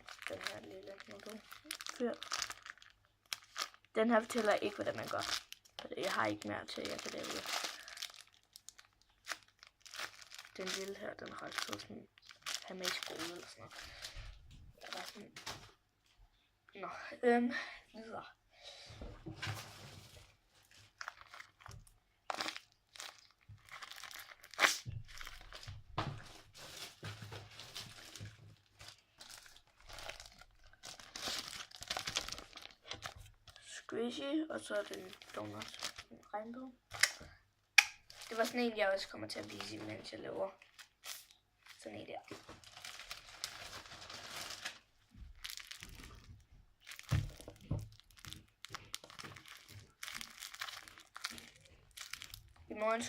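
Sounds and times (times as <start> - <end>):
paper and plastic crinkling: 0.0 - 15.8, 19.3 - 33.8, 34.6 - 36.2, 38.0 - 53.0.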